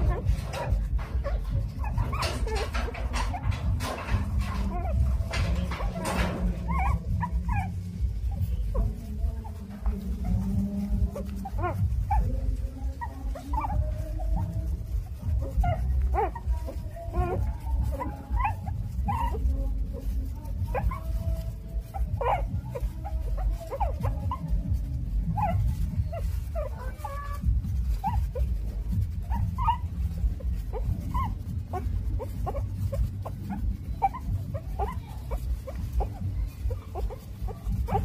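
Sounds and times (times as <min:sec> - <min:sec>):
puppies whimpering and squeaking: 0:00.0 - 0:38.0
steady low rumble: 0:00.0 - 0:38.0.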